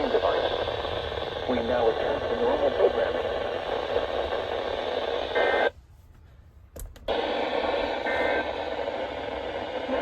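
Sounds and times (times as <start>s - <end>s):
radio static hiss: 0.0s - 5.8s, 7.1s - 10.0s.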